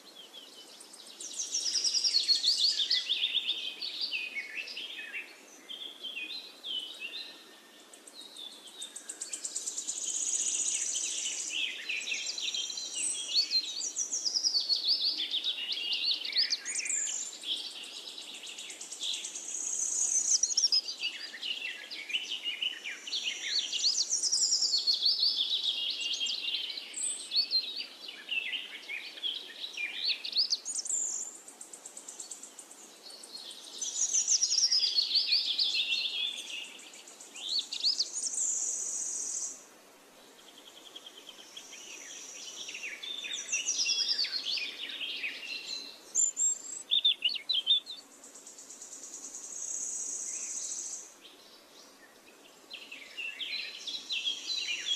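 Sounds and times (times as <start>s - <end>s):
small birds singing: 0.0s - 54.9s.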